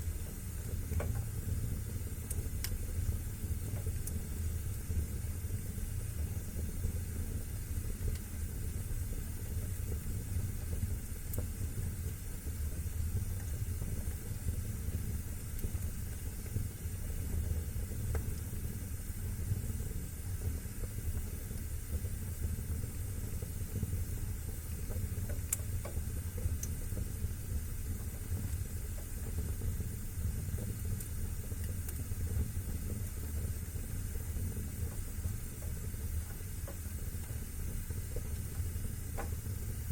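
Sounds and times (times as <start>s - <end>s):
fire crackles: 0.0s - 39.9s
wood fire rumble and hiss: 0.0s - 39.9s.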